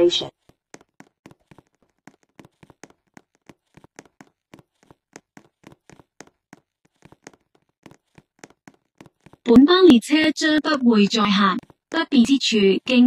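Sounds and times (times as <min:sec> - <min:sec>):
faint clicks and taps: 0:00.3 - 0:13.0.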